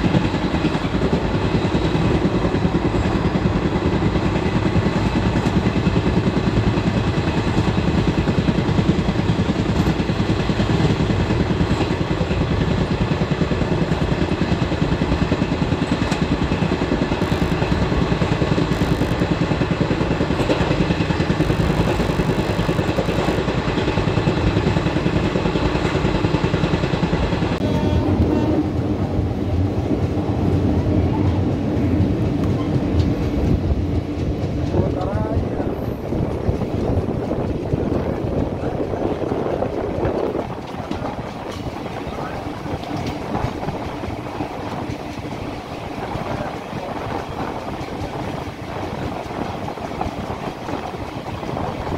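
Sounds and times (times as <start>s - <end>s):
wheels rumbling on rail: 0.0s - 51.9s.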